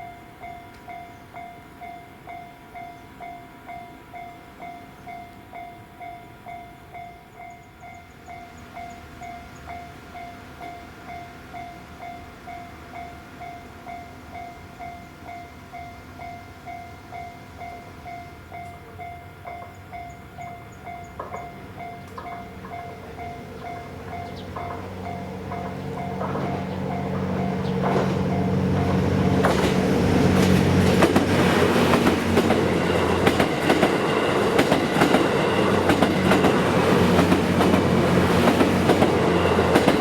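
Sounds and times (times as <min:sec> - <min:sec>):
level crossing alarm ringing: 0:05.7 - 0:40.0.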